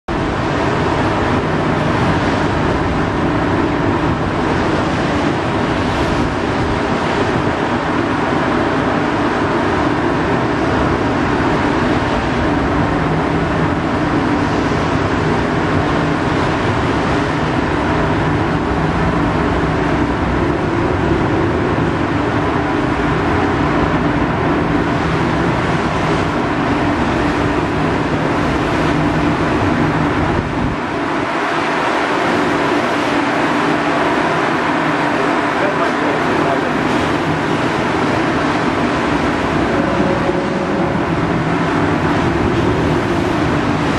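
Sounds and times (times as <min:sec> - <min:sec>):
rushing noise: 0:00.1 - 0:43.9
ship engine hum: 0:00.1 - 0:43.9.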